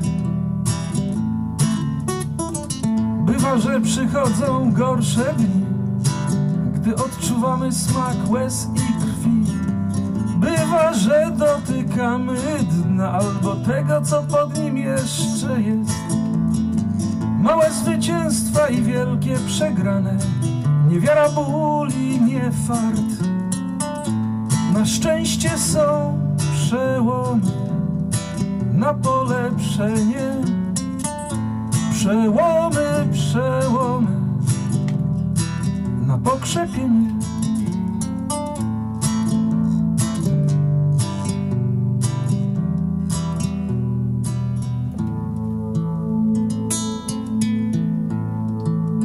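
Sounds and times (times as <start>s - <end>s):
acoustic guitar playing chords: 0.0s - 49.0s.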